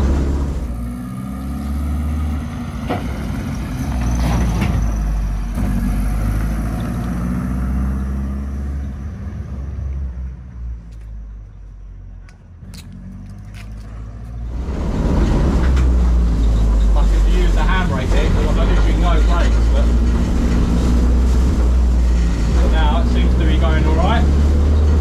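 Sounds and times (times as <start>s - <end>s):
car engine revving on road: 0.0s - 10.8s, 12.6s - 25.0s.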